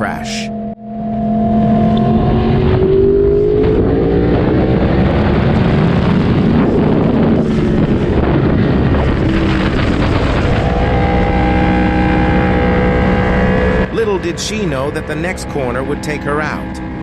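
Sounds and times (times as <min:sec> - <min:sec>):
motorcycle engine accelerating: 0:00.0 - 0:17.0
wind rushing over microphone: 0:00.9 - 0:17.0.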